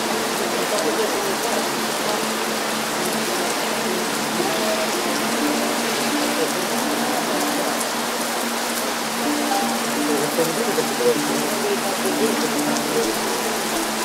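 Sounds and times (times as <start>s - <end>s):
rain falling on wet paving: 0.0s - 14.0s.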